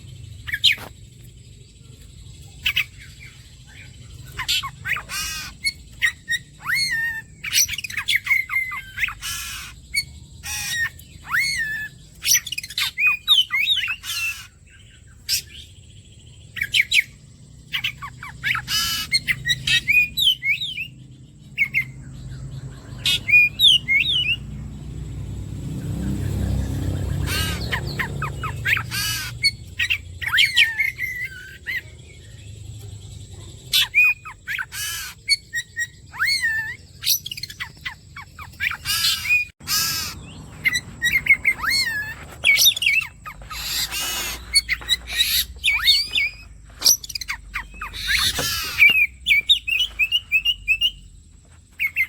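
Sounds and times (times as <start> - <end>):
bird singing: 0.0 - 52.0.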